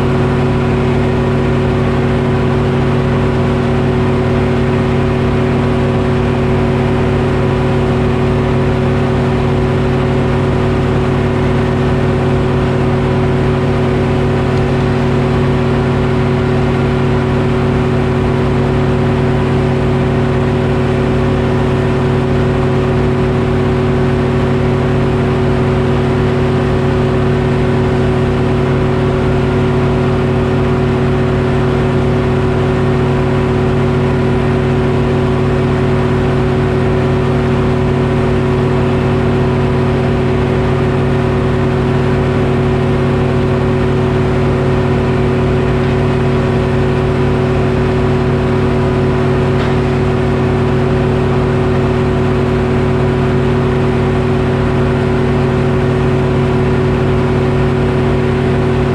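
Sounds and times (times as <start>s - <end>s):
diesel engine running steadily: 0.0s - 58.9s.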